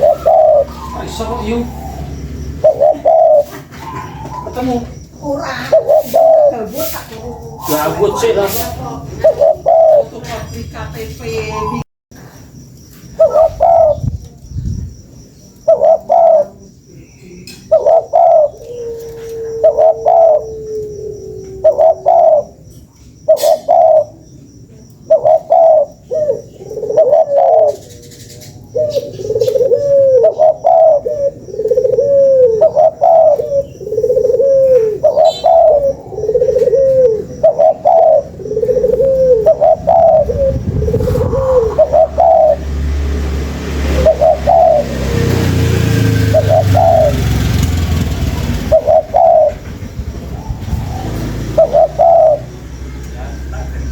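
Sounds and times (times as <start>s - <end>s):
dove cooing: 0.0s - 11.8s, 13.1s - 14.4s, 15.5s - 53.9s.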